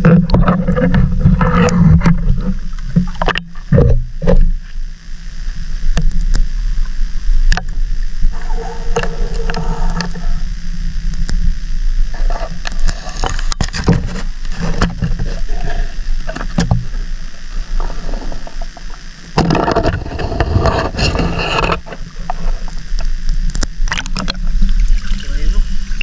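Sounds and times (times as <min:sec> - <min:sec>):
water sloshing underwater: 0:00.0 - 0:26.0.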